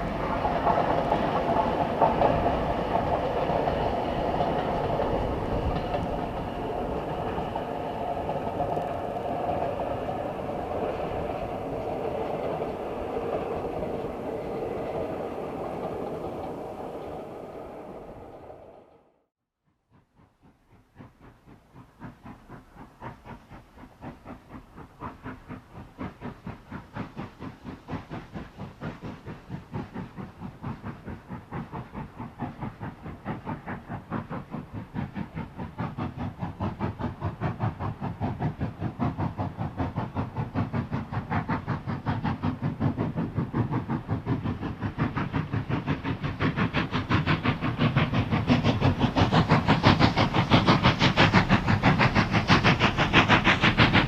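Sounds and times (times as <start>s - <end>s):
steam locomotive exhaust beats: 0.0s - 19.2s, 19.8s - 54.0s.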